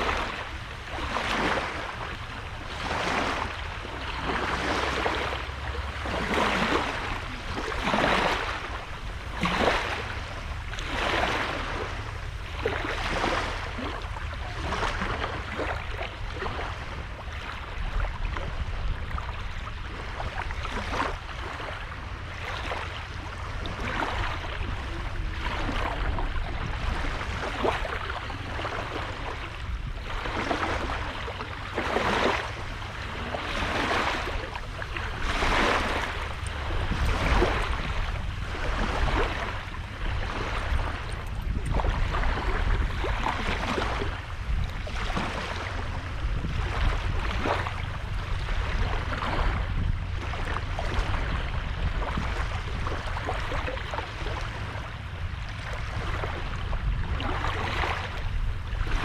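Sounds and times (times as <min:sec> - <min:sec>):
steady low rumble: 0:00.0 - 0:59.0
waves washing onto beach: 0:00.0 - 0:59.0.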